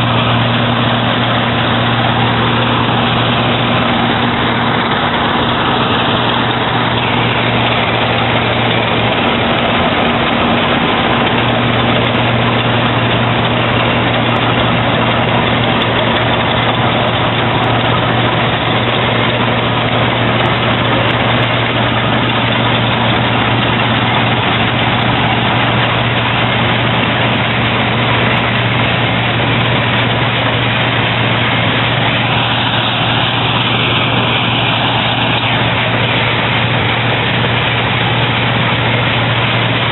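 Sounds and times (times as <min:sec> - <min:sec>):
combine harvester engine hum: 0:00.0 - 0:39.9
mechanical rush: 0:00.0 - 0:39.9.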